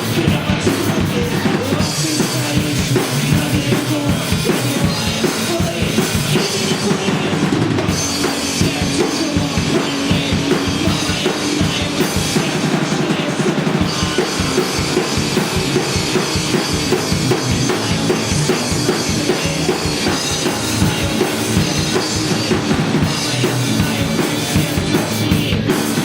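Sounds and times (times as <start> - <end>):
drum kit beat: 0.0 - 26.0
live rock band playing: 0.0 - 26.0.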